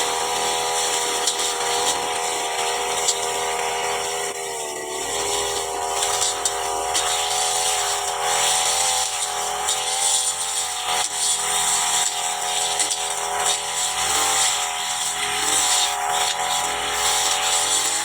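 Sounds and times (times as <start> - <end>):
brush cutter cutting grass: 0.0 - 18.0.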